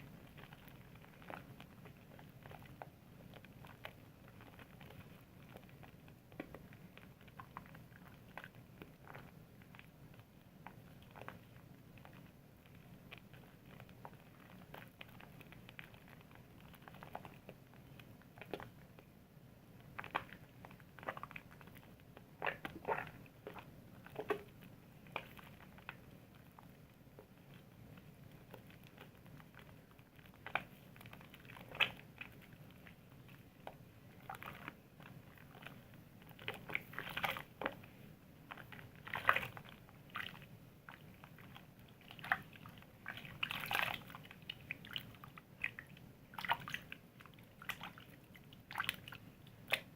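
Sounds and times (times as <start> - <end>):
wet soap squishing: 0.0 - 49.9.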